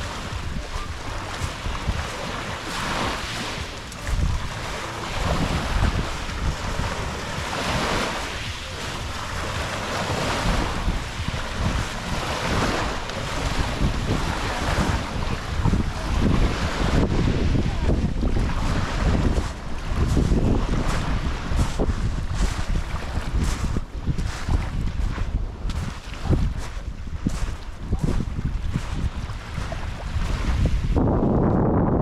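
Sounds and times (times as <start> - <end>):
sea waves washing onto beach: 0.0 - 31.4
wind buffeting microphone: 0.0 - 32.0.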